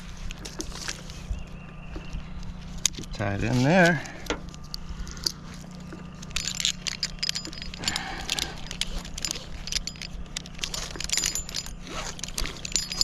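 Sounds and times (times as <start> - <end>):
rope and branch rustling: 0.0 - 13.0
metal climbing hardware clinking: 2.4 - 13.0.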